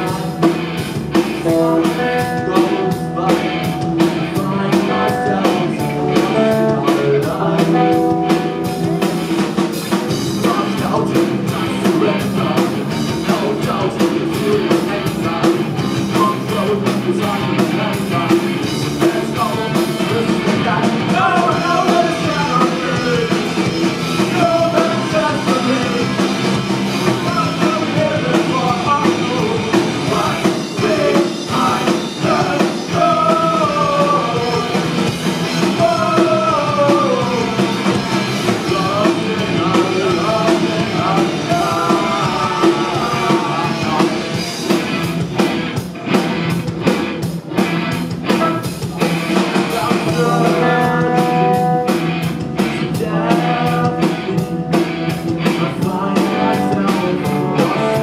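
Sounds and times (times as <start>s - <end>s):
person singing: 0.0s - 9.3s, 10.2s - 26.2s, 27.0s - 35.0s, 35.6s - 44.4s, 48.3s - 58.0s
live rock band playing: 0.0s - 58.0s.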